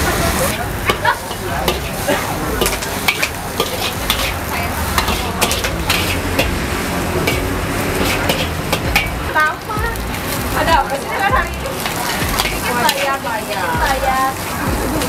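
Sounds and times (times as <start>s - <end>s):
food sizzling in oil: 0.0s - 15.0s
spatula scraping a wok: 0.0s - 15.0s.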